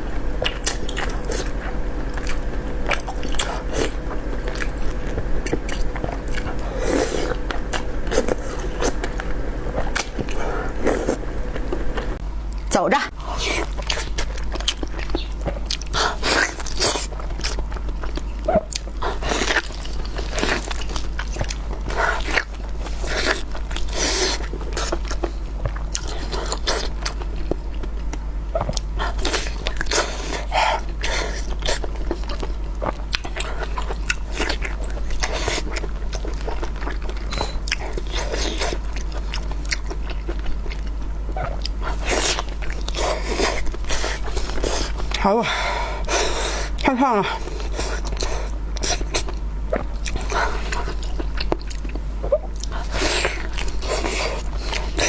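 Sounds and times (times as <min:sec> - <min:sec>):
person chewing food: 0:00.0 - 0:55.0
steady low hum: 0:00.0 - 0:55.0.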